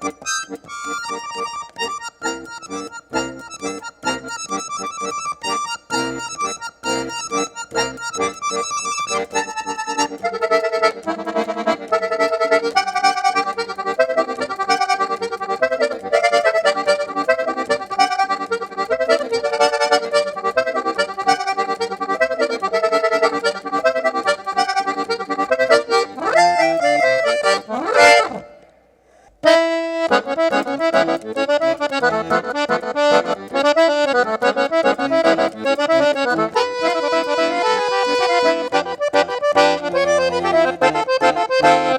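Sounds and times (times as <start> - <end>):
accordion playing fast melody: 0.0 - 28.6, 29.4 - 41.9.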